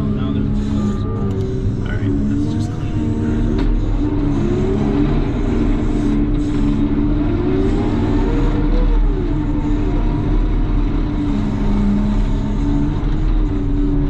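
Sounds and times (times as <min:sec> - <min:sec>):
diesel loader engine revving: 0:00.0 - 0:14.0.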